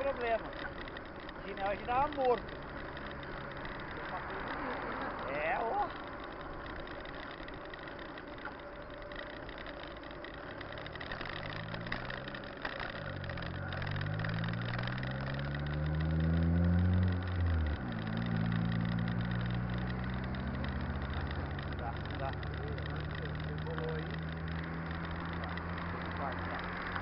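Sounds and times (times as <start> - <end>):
vehicle engine accelerating: 0.0 - 27.0
wind and road noise: 0.0 - 27.0.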